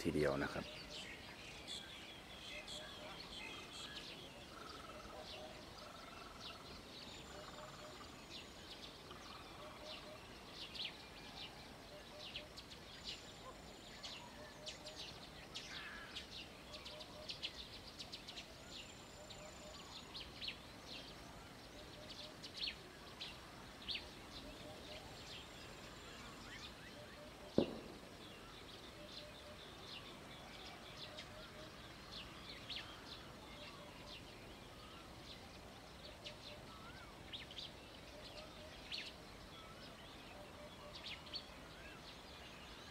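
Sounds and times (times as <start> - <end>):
low background hiss: 0.0 - 42.9
small birds chirping: 0.0 - 42.9.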